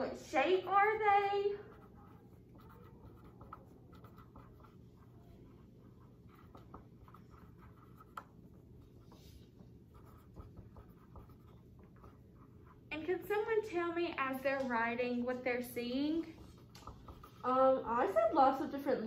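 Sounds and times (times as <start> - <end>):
low room hum: 0.0 - 19.0
pencils scratching on paper: 0.3 - 13.5, 14.5 - 18.6.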